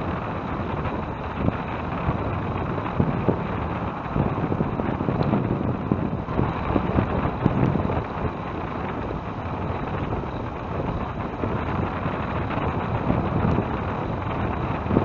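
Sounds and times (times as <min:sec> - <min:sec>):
bicycle road noise: 0:00.0 - 0:15.0
wind buffeting microphone: 0:00.0 - 0:15.0.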